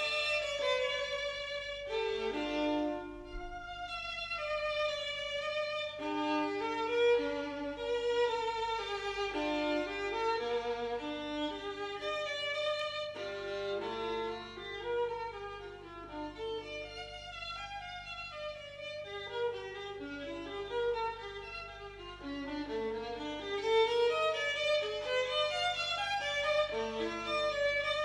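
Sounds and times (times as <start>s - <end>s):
violin music with accompaniment: 0.0s - 28.0s.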